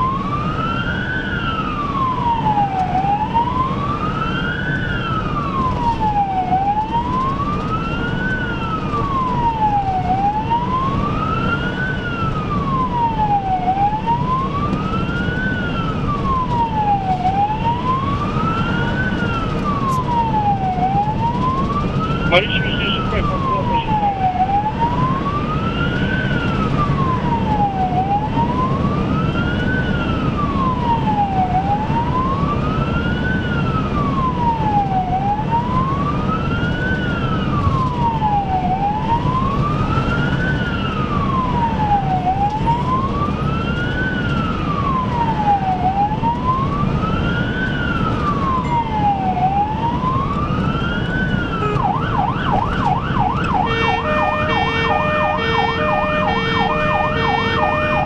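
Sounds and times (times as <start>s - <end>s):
ambulance siren: 0.0s - 58.0s
engine and road noise: 0.0s - 58.0s.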